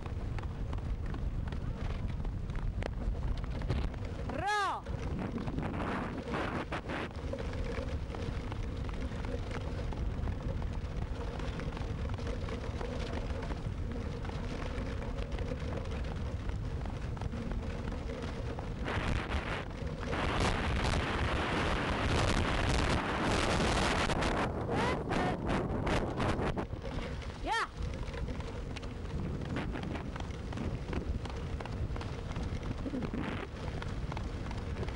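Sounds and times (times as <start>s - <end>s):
cart wheels rolling on dirt: 0.0s - 34.9s
wind buffeting microphone: 0.0s - 34.9s.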